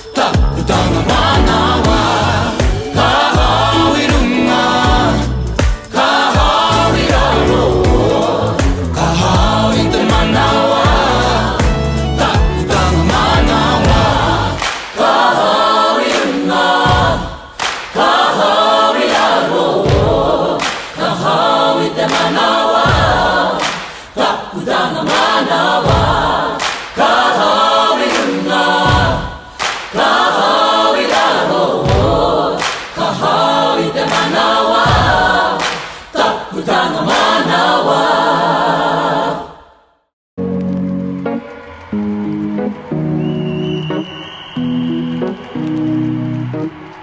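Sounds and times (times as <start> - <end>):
choir singing a cappella: 0.0 - 40.1.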